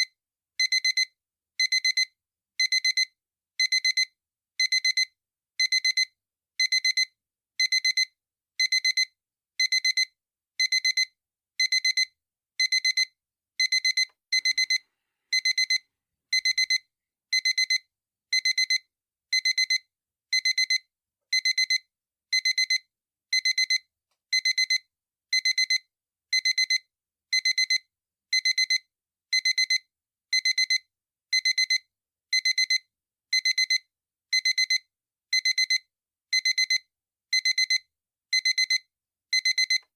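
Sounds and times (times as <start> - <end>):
digital alarm clock beeping: 0.0 - 39.8.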